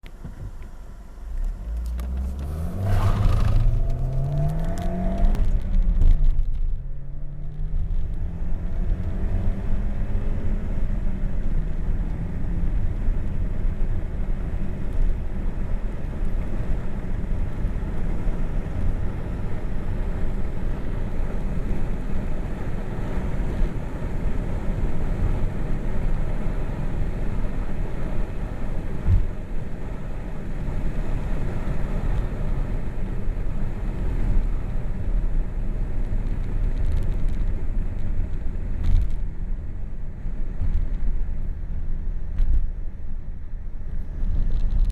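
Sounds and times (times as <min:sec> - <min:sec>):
car engine accelerating: 0:00.0 - 0:44.9
road and wind noise: 0:00.0 - 0:44.9.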